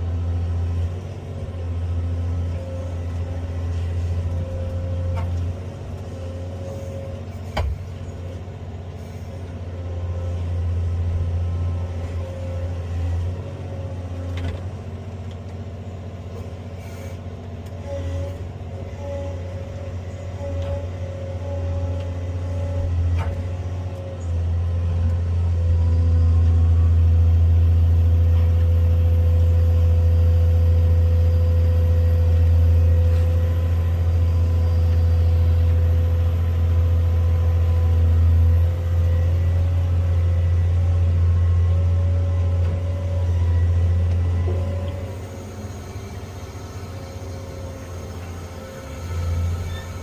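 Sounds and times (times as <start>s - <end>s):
excavator diesel engine droning: 0.0s - 50.0s.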